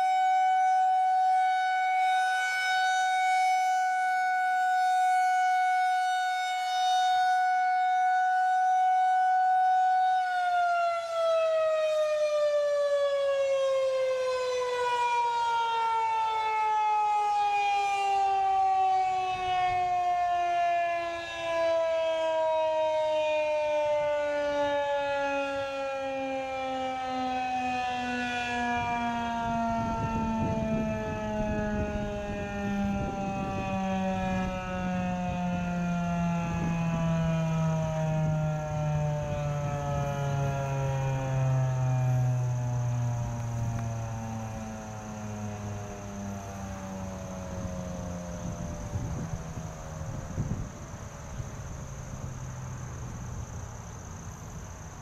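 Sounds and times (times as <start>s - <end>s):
warning siren winding down: 0.0s - 55.0s.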